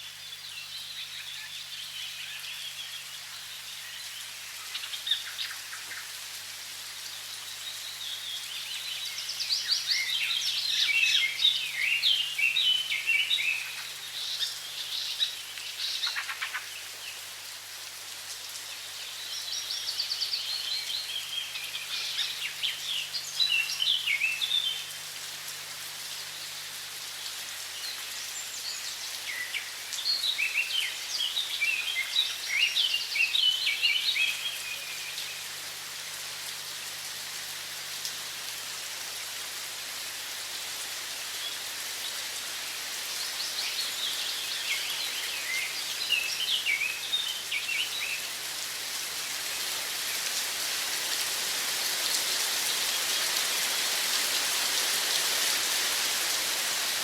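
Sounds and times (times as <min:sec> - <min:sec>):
songbirds chirping: 0:00.0 - 0:55.6.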